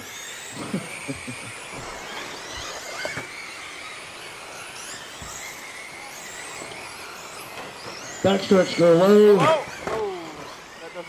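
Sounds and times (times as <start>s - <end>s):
high-pitched motor whines: 0.0s - 11.0s.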